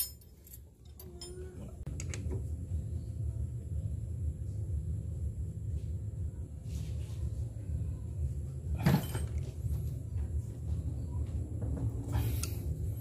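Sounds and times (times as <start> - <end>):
steady low rumble: 1.7 - 13.0.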